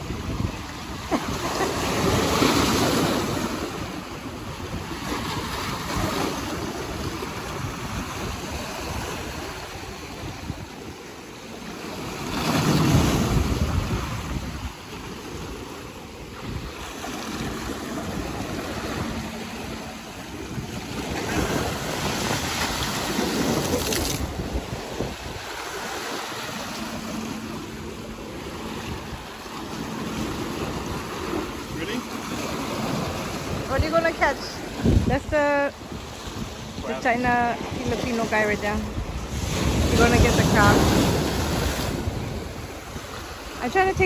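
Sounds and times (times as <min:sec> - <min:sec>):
ocean waves breaking: 0:00.0 - 0:44.0
wind buffeting microphone: 0:00.0 - 0:44.0.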